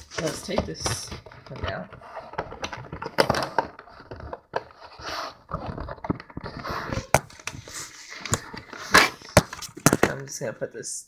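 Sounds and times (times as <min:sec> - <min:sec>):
packaging rustling and scraping: 0:00.0 - 0:10.1.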